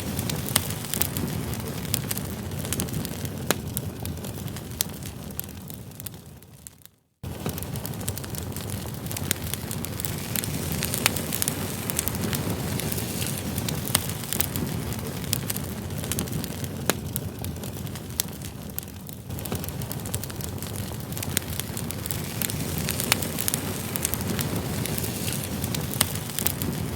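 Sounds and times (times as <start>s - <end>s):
campfire flames rushing: 0.0s - 26.9s
logs crackling and popping: 0.0s - 26.9s.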